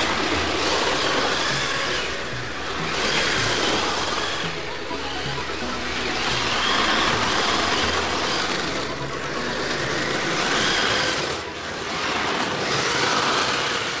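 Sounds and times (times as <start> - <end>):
electric motor whine: 0.0 - 14.0
tyres sliding on concrete: 0.0 - 14.0.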